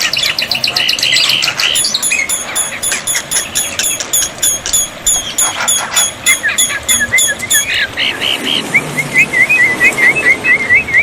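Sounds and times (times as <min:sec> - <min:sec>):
bird chirping rapidly: 0:00.0 - 0:11.0
low whistled bird notes: 0:00.0 - 0:11.0.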